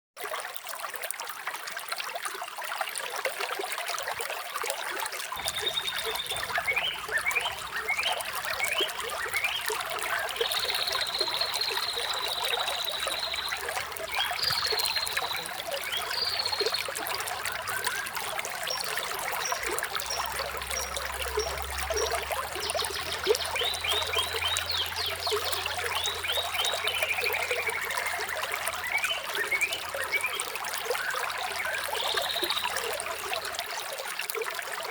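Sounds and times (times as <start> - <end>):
water trickling: 0.2 - 34.9
small birds chirping: 5.4 - 33.5.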